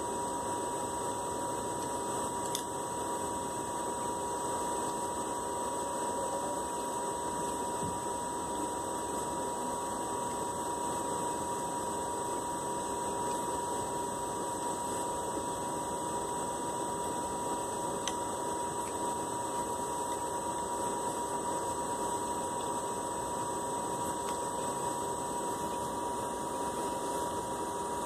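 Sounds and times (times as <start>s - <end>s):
steady whine: 0.0s - 28.0s.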